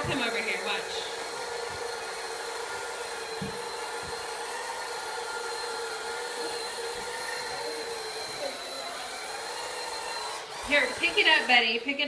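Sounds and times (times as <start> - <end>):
robot vacuum cleaner running: 0.0 - 12.0.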